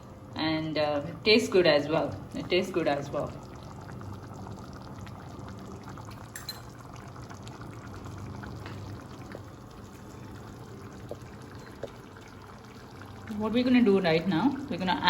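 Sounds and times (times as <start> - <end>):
curry bubbling in pot: 0.1 - 15.0.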